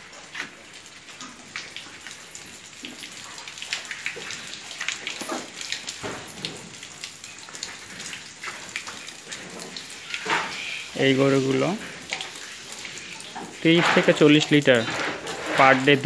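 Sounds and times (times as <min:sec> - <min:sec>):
steady wet hiss: 0:00.0 - 0:16.0
water dripping on concrete: 0:00.0 - 0:16.0.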